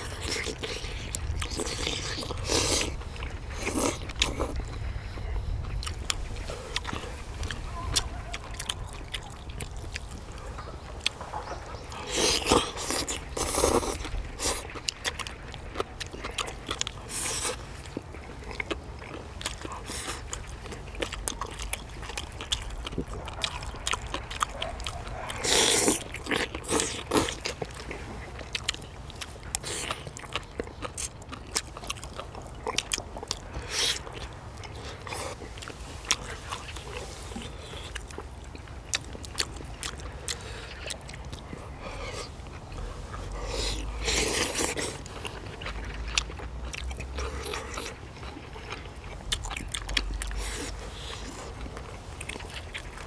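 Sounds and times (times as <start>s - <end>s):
bites or slurps: 0.0s - 10.4s, 11.0s - 53.0s
people chewing food: 0.0s - 53.0s.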